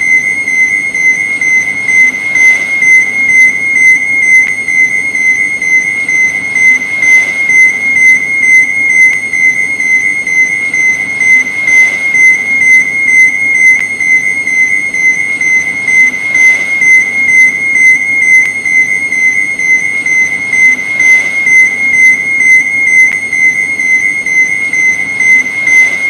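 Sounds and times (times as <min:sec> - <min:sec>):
pulsing high-pitched alarm beep: 0:00.0 - 0:26.0.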